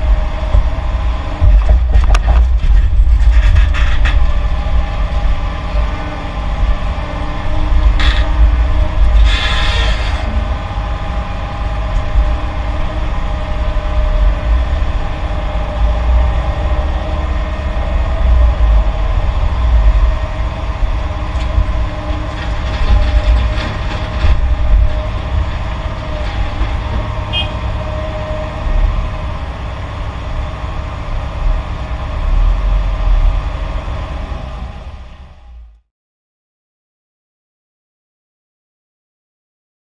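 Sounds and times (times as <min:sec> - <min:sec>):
diesel engine rumble: 0:00.0 - 0:35.9.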